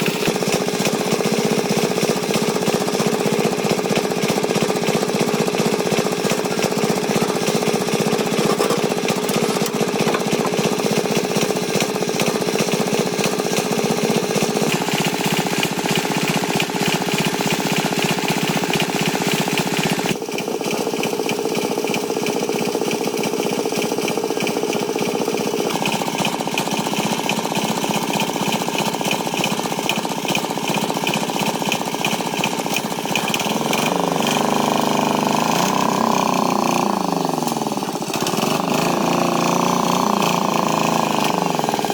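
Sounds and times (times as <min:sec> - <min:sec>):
tractor engine with rattling knock: 0:00.0 - 0:41.9.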